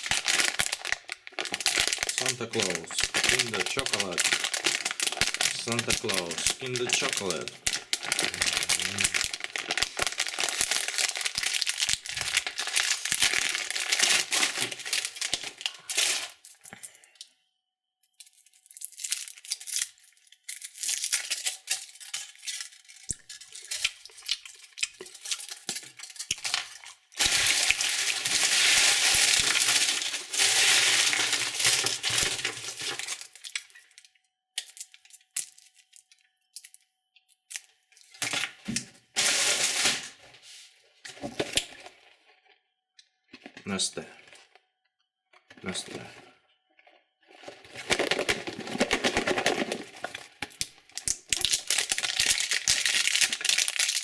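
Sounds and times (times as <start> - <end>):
foil wrapper crinkling and tearing: 0.0 - 16.8, 18.1 - 36.8, 39.2 - 40.2, 47.3 - 54.0.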